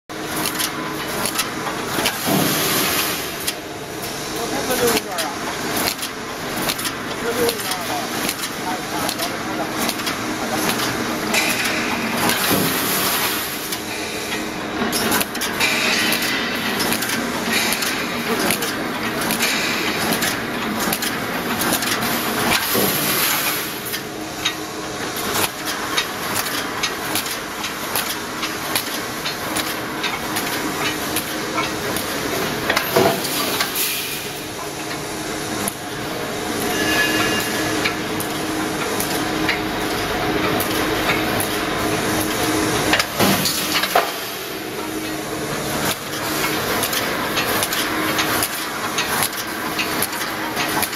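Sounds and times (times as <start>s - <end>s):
constant welding hiss: 0.2s - 50.9s
machine clanks and knocks: 0.4s - 3.7s, 4.4s - 35.0s, 36.5s - 50.9s.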